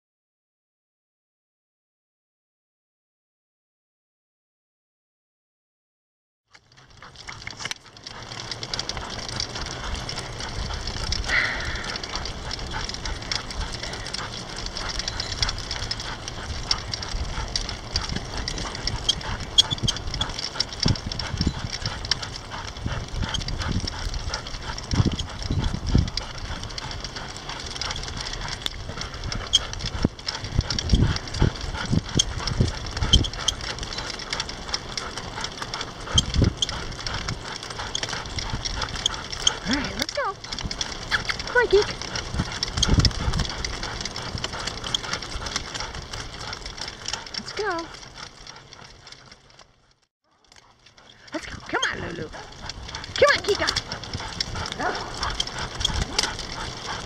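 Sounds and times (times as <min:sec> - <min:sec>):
wheels rolling: 0:06.5 - 0:57.0
paws ticking on pavement: 0:06.6 - 0:57.0
wind rumble on microphone: 0:07.1 - 0:49.6, 0:51.2 - 0:57.0.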